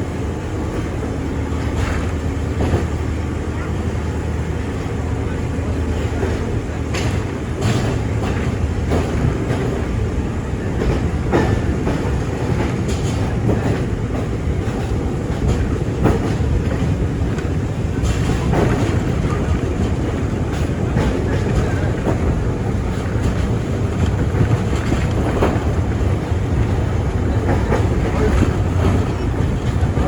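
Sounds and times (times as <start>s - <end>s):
train rumbling along track: 0.0s - 30.0s.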